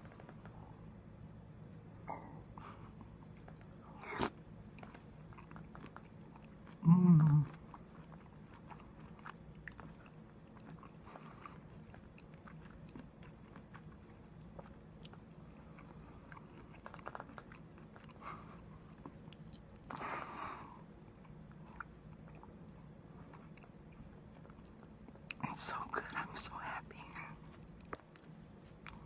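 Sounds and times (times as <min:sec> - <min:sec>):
person quietly chewing: 0:02.0 - 0:29.0.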